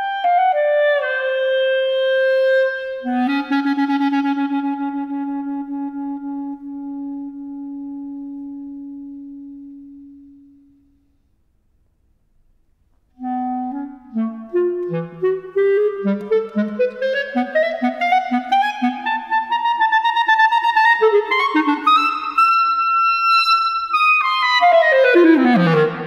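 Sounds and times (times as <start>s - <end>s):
solo clarinet: 0.0s - 11.1s, 13.1s - 26.0s.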